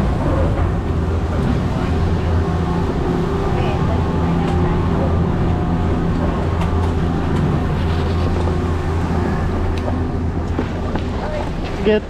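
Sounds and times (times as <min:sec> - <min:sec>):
chairlift machinery humming: 0:00.0 - 0:11.9.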